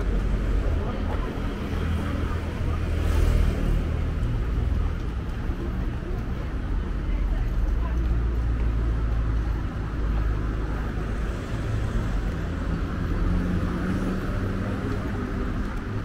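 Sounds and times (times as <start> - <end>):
city street ambience with low rumble: 0.0 - 16.0.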